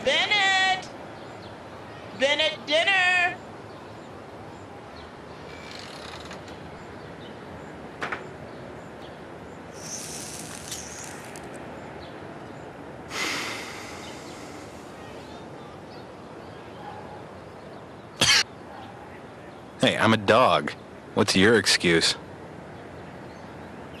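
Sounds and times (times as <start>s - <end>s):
outdoor ambience hiss: 0.0s - 24.0s.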